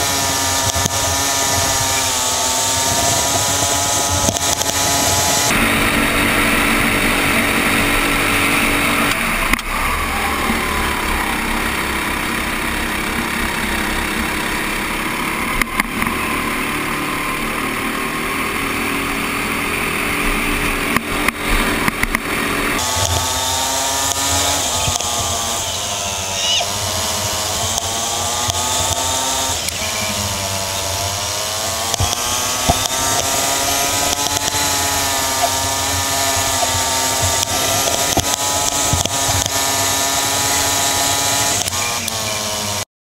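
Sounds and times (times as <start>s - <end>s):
kart engine running flat out: 0.0s - 42.9s.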